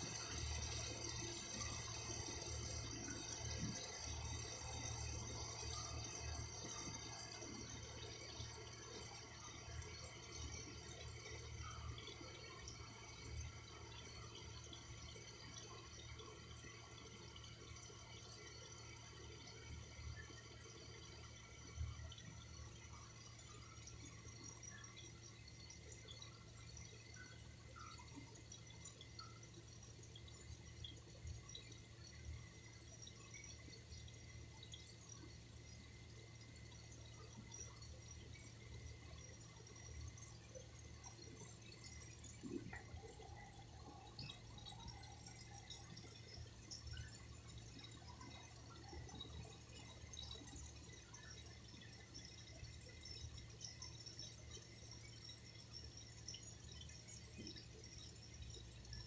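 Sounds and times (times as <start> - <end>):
water dripping and trickling: 0.0 - 59.0.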